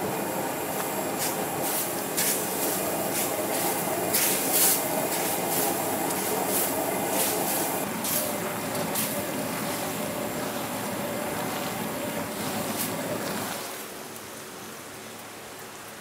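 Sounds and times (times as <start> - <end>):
food sizzling in a wok: 0.2 - 14.0.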